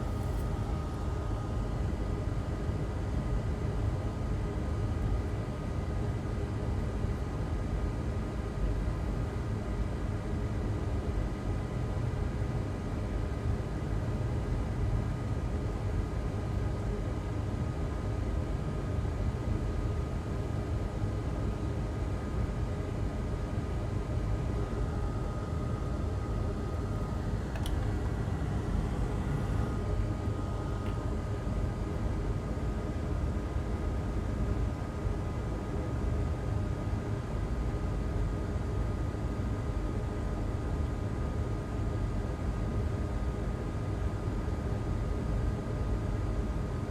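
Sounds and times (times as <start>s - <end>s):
faint steady whines: 0.0s - 46.9s
fan hum and hiss: 0.0s - 46.9s.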